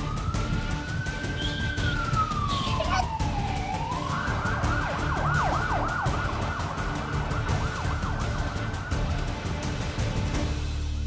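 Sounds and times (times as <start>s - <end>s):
police siren yelping: 0.0s - 9.2s.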